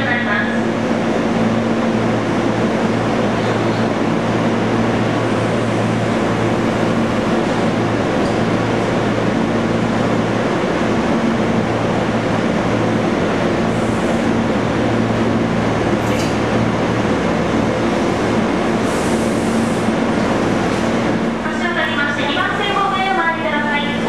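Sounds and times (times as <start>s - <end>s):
electric train rumble: 0.0s - 24.0s.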